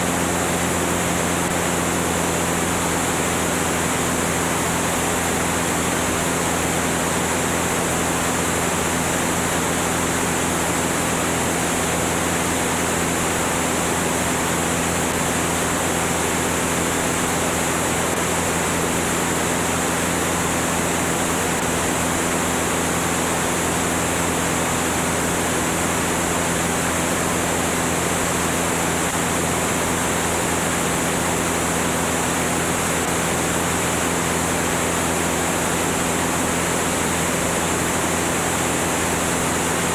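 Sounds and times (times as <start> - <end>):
aircraft engine and propeller hum: 0.0 - 39.9.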